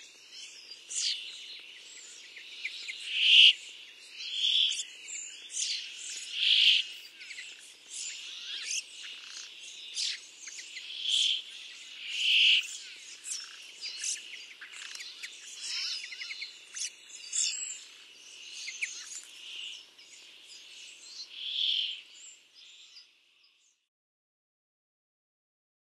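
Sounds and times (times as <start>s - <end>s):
bird buzzy song: 0.0s - 23.9s
bird chirps: 0.0s - 23.9s.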